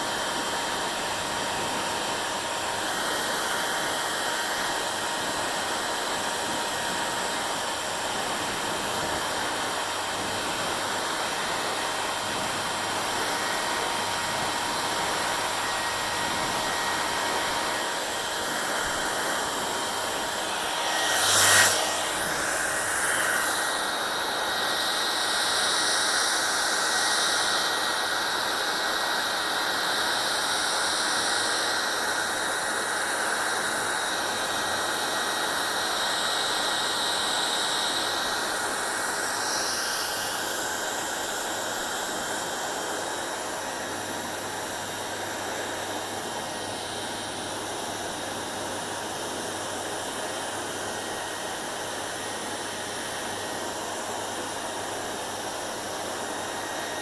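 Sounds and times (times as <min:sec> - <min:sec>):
hair dryer blowing air: 0:00.0 - 0:57.0.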